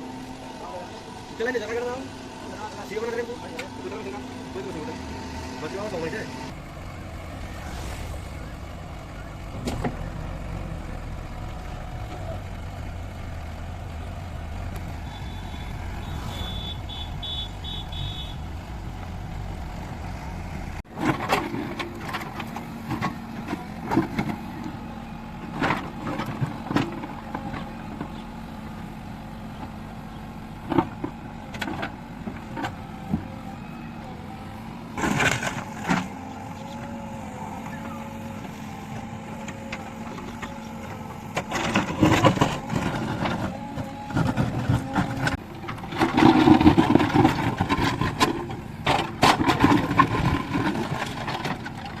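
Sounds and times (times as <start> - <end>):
diesel engine rumbling: 0.0 - 52.0.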